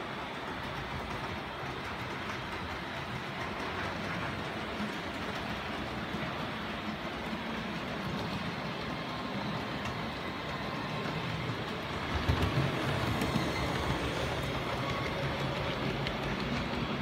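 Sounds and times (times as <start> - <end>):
model train running: 0.0 - 17.0.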